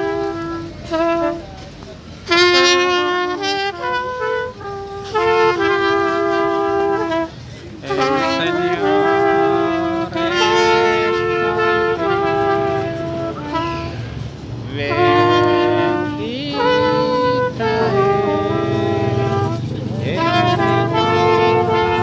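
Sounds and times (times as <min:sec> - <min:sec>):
brass band playing slow tune: 0:00.0 - 0:22.0.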